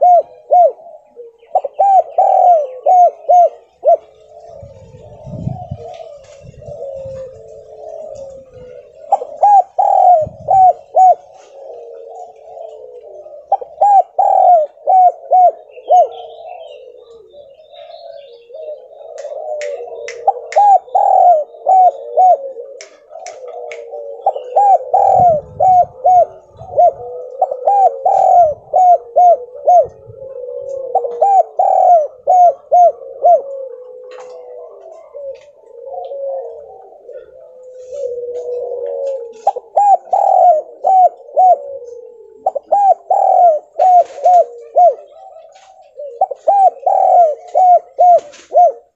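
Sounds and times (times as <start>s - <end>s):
dove cooing: 0.0s - 48.9s
softer dove cooing: 0.0s - 48.9s.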